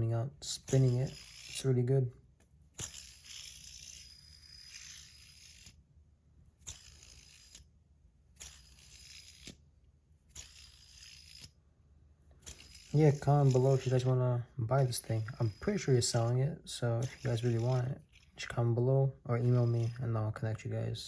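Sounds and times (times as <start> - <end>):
fidget spinner whirring: 0.4 - 11.6, 12.3 - 18.7, 19.4 - 20.1.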